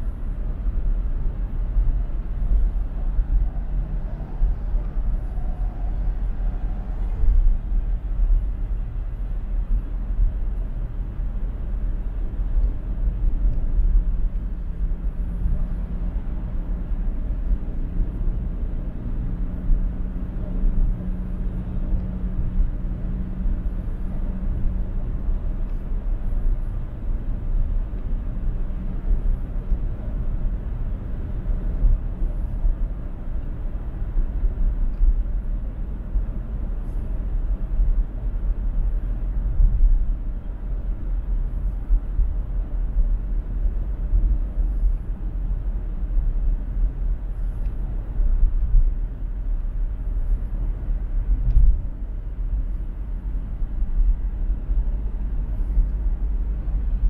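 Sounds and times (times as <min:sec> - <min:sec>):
low steady hum: 0:00.0 - 0:57.0
road and tyre rumble: 0:00.0 - 0:57.0.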